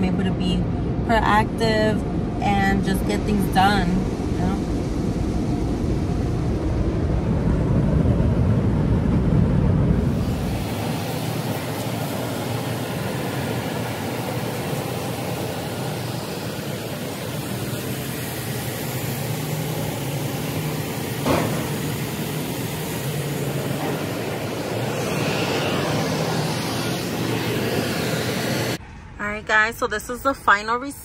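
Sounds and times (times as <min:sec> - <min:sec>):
car wash deep rumble: 0:00.0 - 0:31.0
car wash rushing noise: 0:02.2 - 0:29.4.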